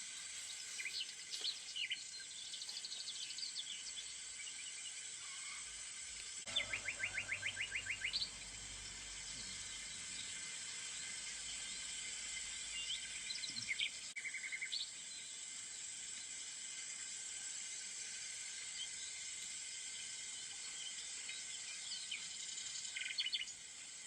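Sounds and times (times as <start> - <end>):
songbirds chirping: 0.0 - 16.4, 18.6 - 24.0
steady high hiss: 0.0 - 24.0.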